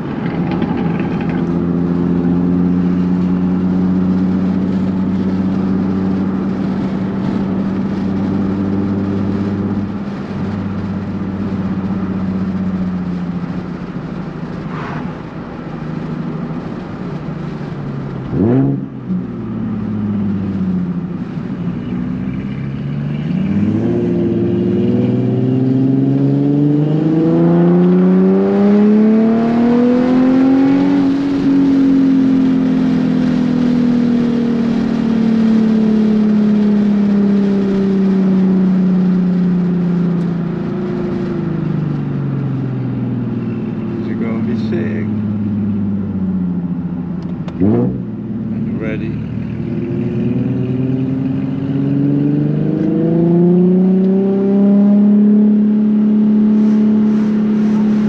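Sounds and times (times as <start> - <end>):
car engine and exhaust: 0.0 - 58.0.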